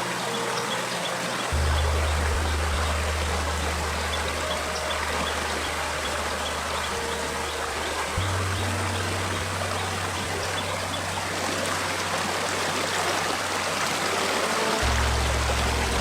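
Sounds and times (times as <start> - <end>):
low steady drone: 0.0 - 16.0
stream flowing: 0.0 - 16.0.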